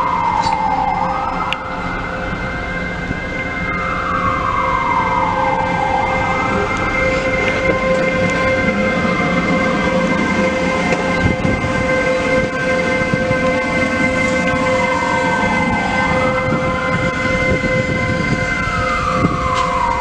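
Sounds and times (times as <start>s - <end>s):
electric locomotive whine: 0.0s - 20.0s
siren wailing: 0.0s - 20.0s.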